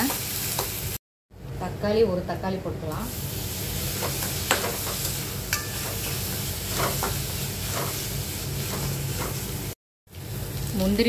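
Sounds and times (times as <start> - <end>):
food sizzling in oil: 0.0 - 1.0, 2.9 - 11.0.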